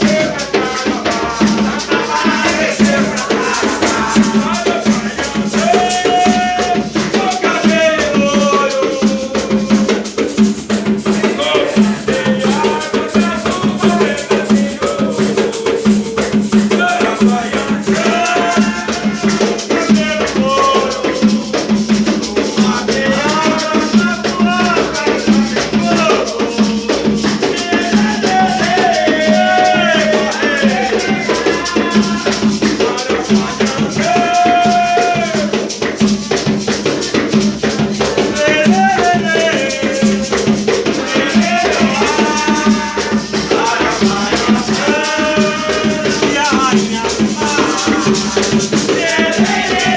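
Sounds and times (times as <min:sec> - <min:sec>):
chant-like singing: 0:00.0 - 0:49.9
shaker rattling: 0:00.0 - 0:49.9.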